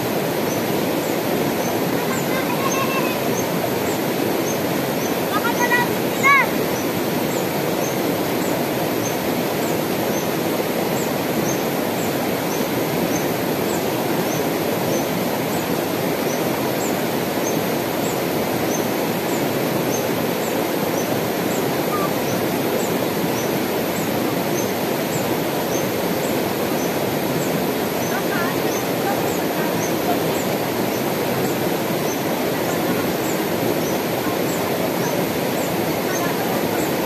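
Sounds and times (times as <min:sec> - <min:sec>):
river rushing over rocks: 0:00.0 - 0:37.0.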